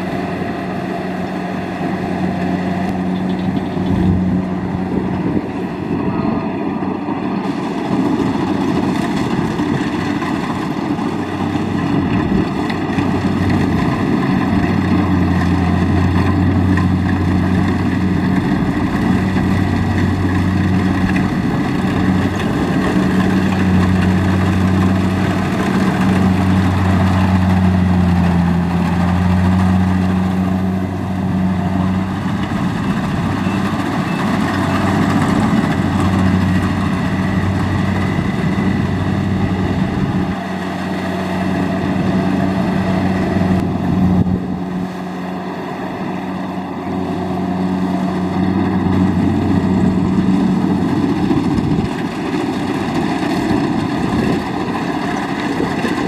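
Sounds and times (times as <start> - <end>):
diesel engine drone: 0.0 - 56.0
threshing machinery whirring: 0.0 - 56.0.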